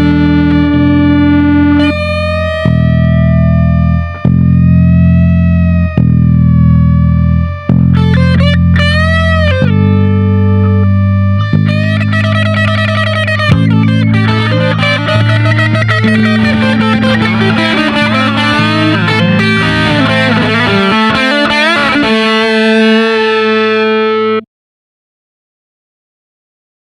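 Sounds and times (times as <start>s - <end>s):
electric guitar blues: 0.0s - 24.4s.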